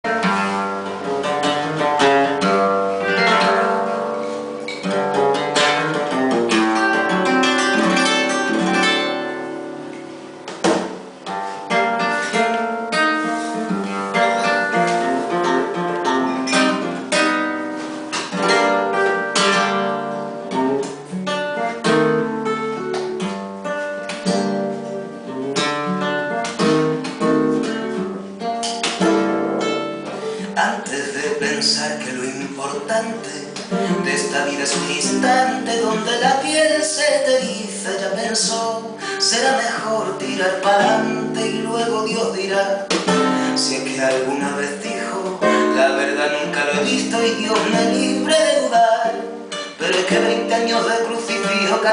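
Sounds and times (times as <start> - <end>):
solo acoustic guitar playing: 0.0 - 51.9.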